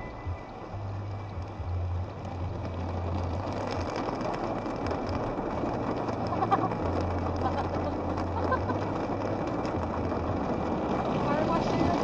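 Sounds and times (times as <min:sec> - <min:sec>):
car engine and road hum: 0:00.0 - 0:12.0
heavy rain and wet tyres hiss: 0:00.0 - 0:12.0.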